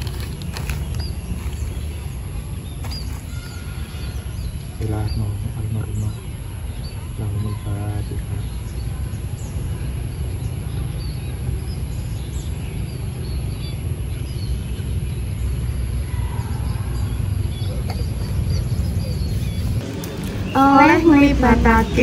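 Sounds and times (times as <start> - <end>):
small bird chirps: 0.0 - 19.8.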